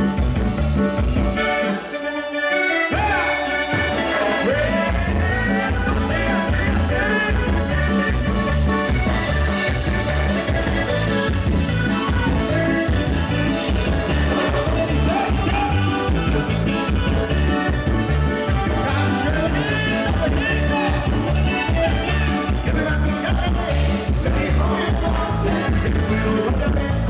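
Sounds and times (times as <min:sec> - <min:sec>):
latin dance music: 0:00.0 - 0:27.0.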